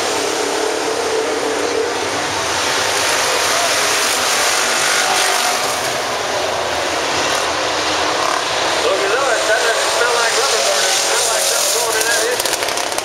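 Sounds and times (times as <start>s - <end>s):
race car engines roaring: 0.0s - 13.0s.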